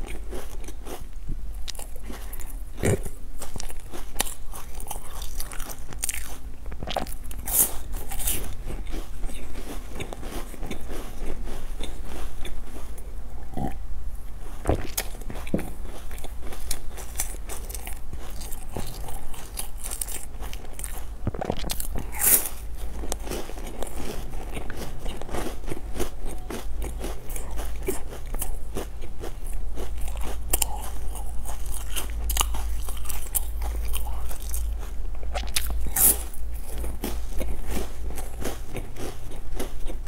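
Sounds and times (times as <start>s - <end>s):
crunchy bites and chewing: 0.0s - 13.8s, 14.6s - 40.0s.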